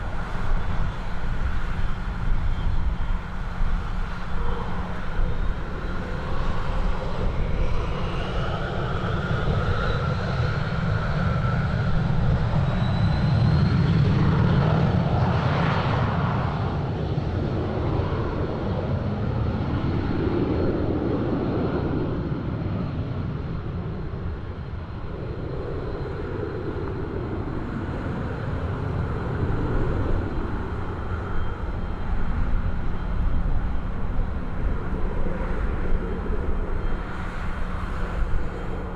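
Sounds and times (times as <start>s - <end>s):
aircraft engines roaring: 0.0s - 38.9s.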